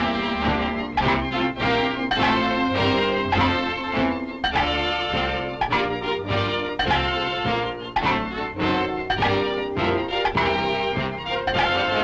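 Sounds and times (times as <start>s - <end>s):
orchestral cartoon music with brass: 0.0s - 12.0s.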